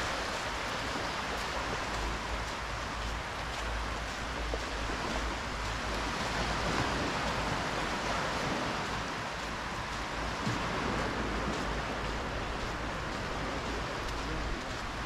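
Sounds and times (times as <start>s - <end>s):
small waves washing on beach: 0.0s - 15.0s.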